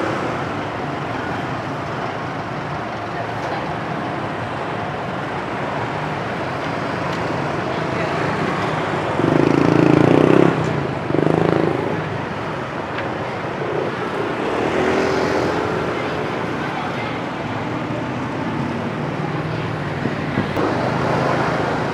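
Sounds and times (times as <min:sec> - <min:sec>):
road traffic: 0:00.0 - 0:21.9.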